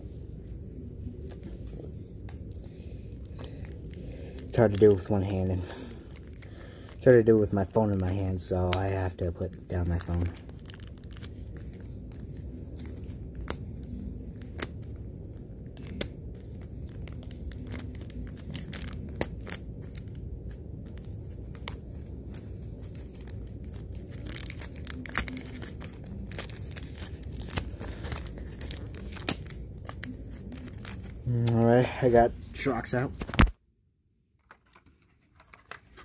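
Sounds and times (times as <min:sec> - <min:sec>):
packaging tearing and crinkling: 0:01.1 - 0:31.7.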